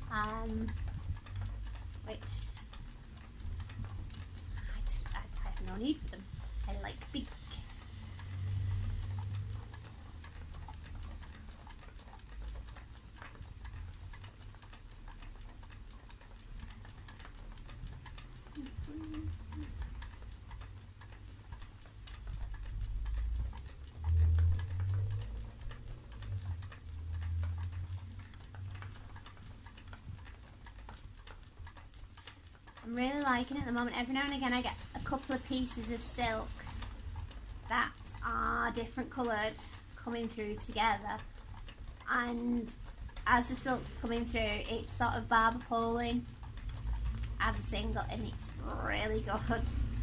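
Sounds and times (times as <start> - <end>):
spinning wheel treadle rumble: 0.0 - 50.0.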